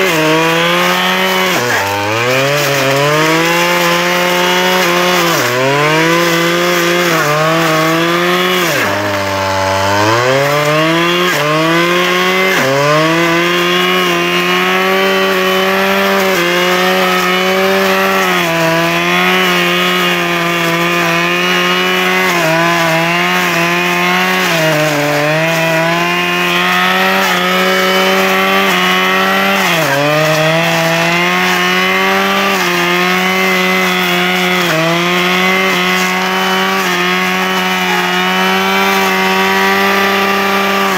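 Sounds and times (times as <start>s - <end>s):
two-stroke power tool engine revving: 0.0s - 40.9s.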